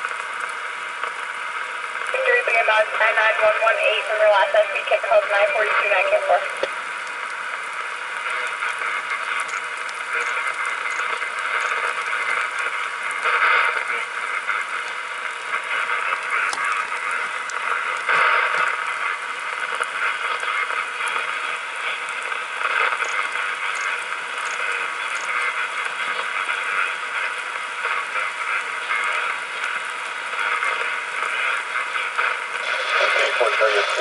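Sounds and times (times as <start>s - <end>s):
faint crackles: 0.0s - 34.0s
radio static hiss: 0.0s - 34.0s.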